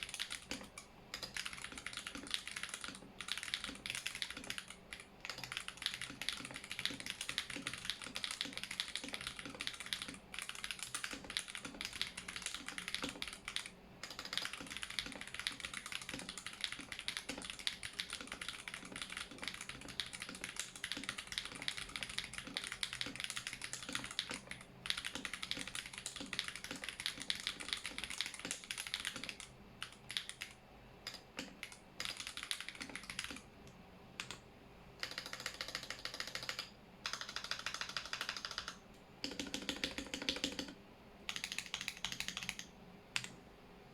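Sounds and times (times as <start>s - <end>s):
typing on mechanical keyboard: 0.0s - 33.4s, 35.0s - 43.4s.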